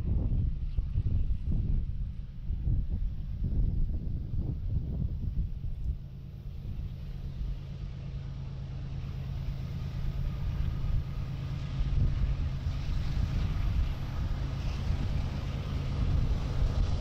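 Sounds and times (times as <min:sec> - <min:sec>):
diesel locomotive engine rumble: 0:00.0 - 0:17.0.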